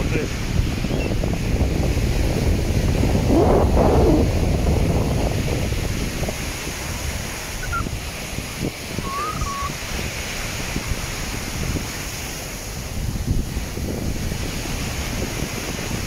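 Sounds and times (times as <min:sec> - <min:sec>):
small waves breaking on sand: 0:00.0 - 0:16.0
wind buffeting microphone: 0:00.0 - 0:16.0.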